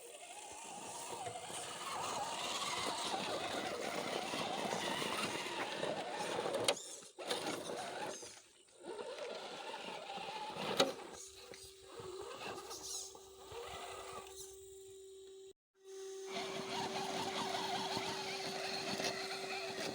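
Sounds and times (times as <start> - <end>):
electric motor whining: 0.0 - 19.9.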